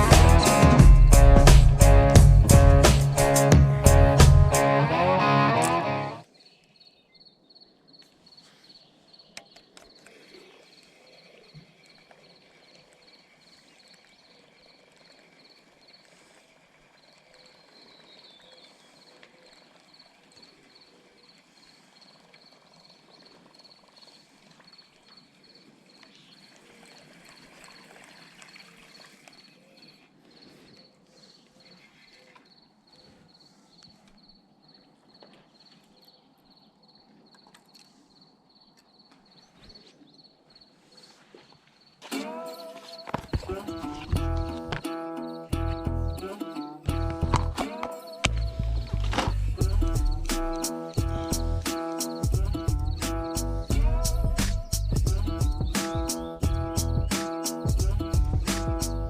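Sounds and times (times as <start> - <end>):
insect chirping: 6.3 - 27.4, 31.6 - 59.0.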